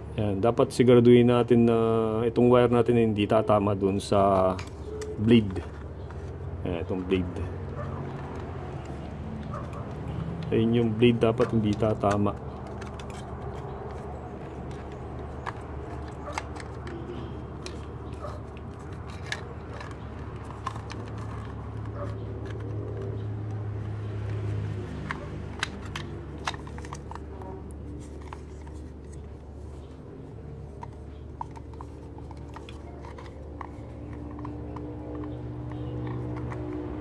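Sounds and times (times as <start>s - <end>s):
plastic parts clicking: 4.0s - 37.0s.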